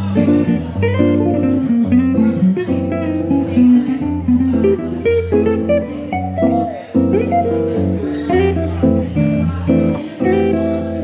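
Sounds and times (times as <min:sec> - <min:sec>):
jazz electric guitar: 0:00.0 - 0:11.0.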